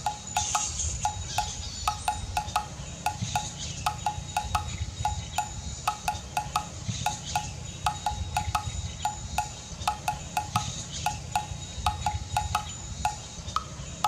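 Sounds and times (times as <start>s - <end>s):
ringing clinks: 0.0s - 14.0s.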